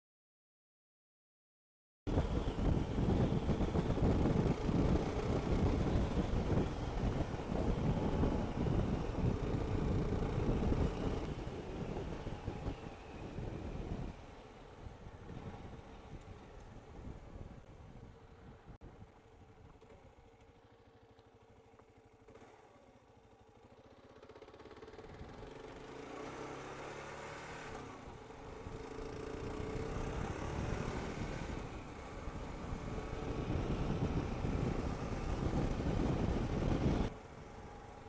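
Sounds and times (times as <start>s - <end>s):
motorcycle engine accelerating: 2.1s - 38.0s.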